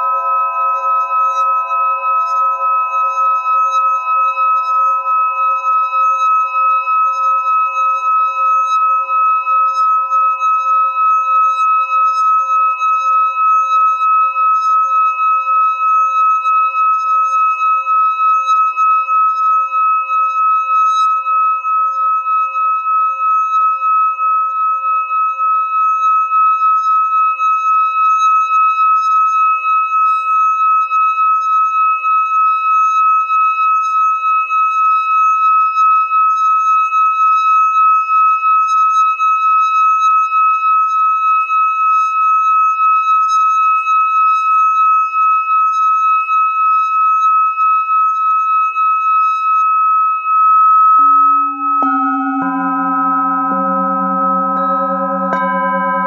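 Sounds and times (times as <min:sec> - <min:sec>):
singing bowl ringing: 0:00.0 - 0:56.0.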